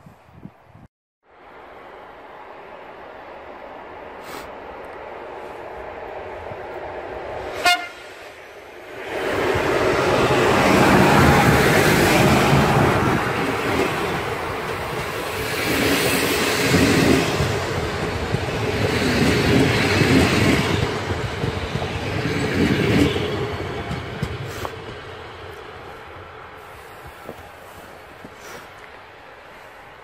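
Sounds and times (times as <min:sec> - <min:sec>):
train wheels rumbling on rails: 0:02.8 - 0:29.6.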